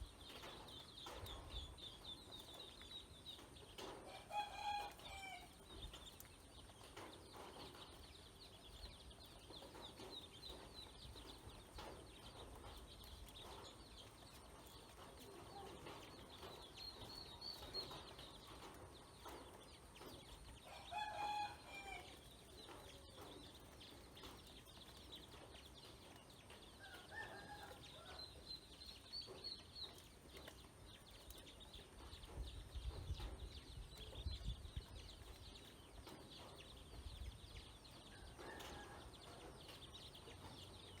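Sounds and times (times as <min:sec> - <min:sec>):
chicks cheeping: 0:00.0 - 0:41.0.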